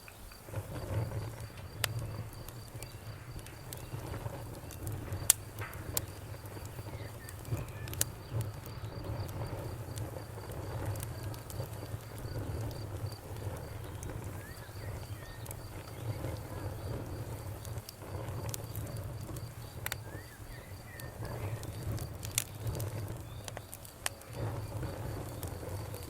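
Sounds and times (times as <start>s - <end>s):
bonfire crackling and popping: 0.0s - 26.0s
crickets chirping: 0.0s - 26.0s.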